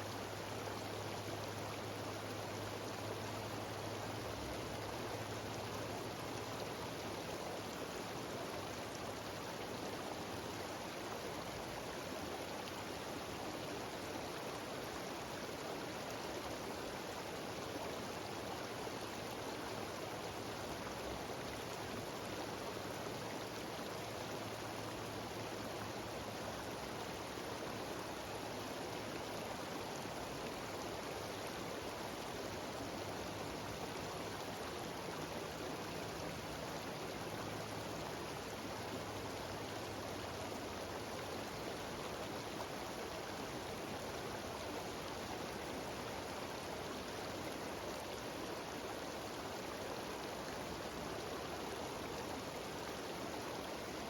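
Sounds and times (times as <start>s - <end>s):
stream rushing over waterfalls: 0.0s - 54.0s.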